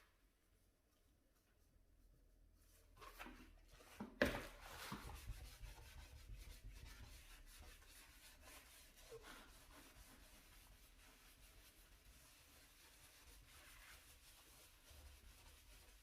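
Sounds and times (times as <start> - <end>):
scrubbing a stovetop: 0.4 - 16.0.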